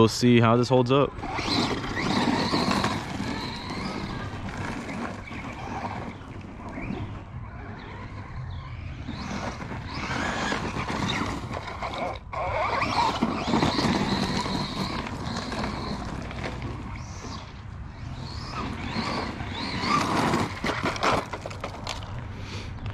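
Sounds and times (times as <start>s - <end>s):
tyres skidding on gravel: 0.0s - 22.9s
rc truck motor whine: 1.0s - 22.9s.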